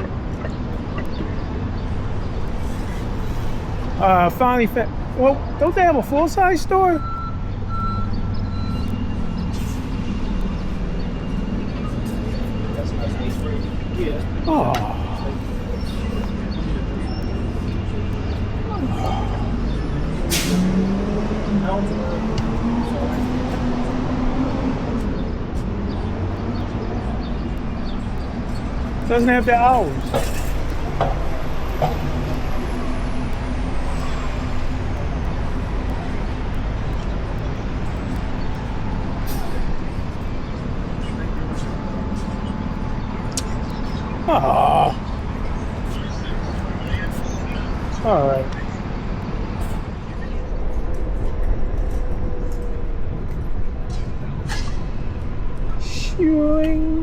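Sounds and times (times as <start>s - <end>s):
road traffic: 0.0s - 57.0s
wind: 0.0s - 57.0s.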